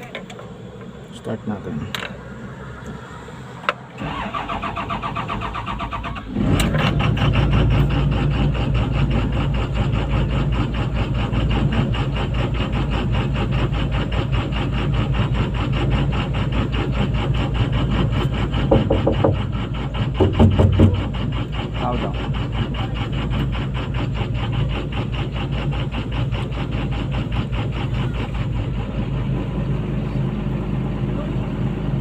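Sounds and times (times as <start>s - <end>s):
diesel engine starter cranking: 0.0s - 29.3s
diesel engine running: 0.0s - 32.0s.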